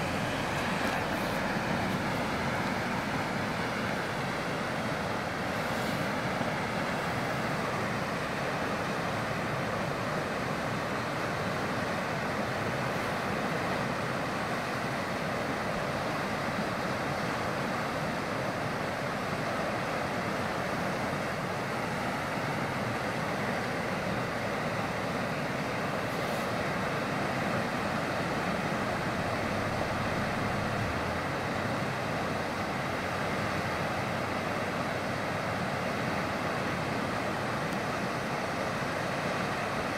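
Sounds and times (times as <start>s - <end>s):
rushing creek water: 0.0s - 39.9s.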